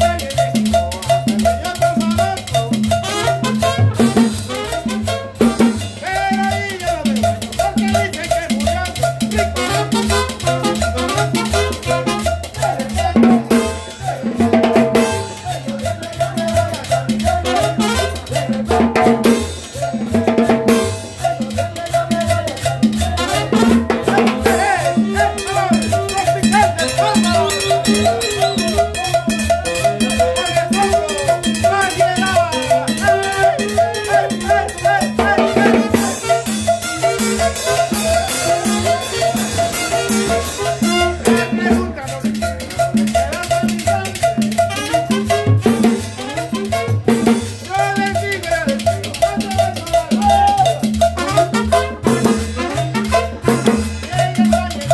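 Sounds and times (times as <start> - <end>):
drums beating: 0.0 - 54.9
salsa band playing: 0.0 - 54.9
upright bass line: 0.0 - 54.9.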